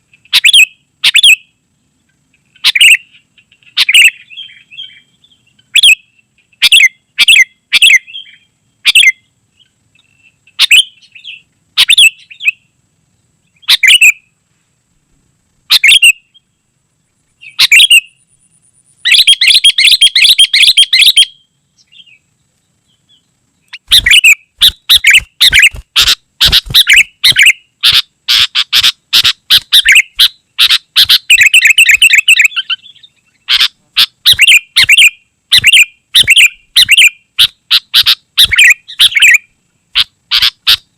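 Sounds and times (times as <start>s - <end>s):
bird chirping: 0.0s - 14.4s, 15.6s - 40.9s.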